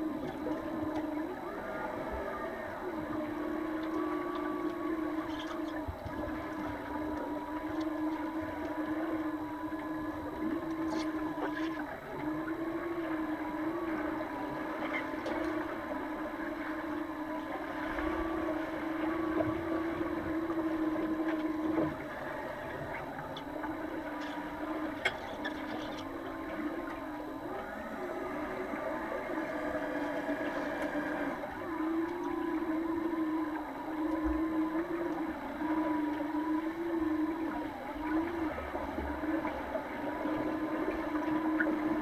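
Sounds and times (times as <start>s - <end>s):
underwater droning hum: 0.0s - 42.0s.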